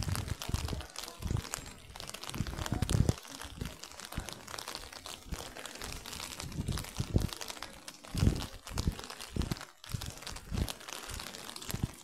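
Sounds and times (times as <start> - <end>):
rustling against microphone: 0.0 - 12.0.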